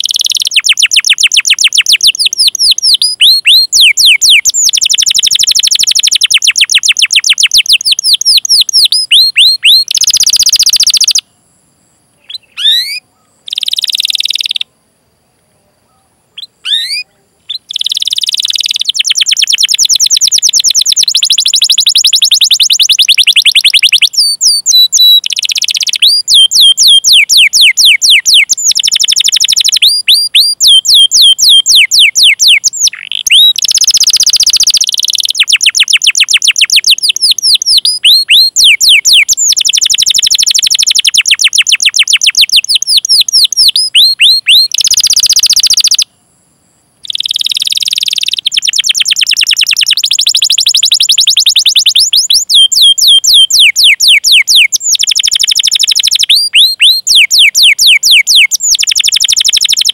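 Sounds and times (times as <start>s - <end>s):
canary singing rapid chirps: 0.0s - 11.2s, 12.2s - 14.7s, 16.4s - 46.1s, 47.0s - 59.9s.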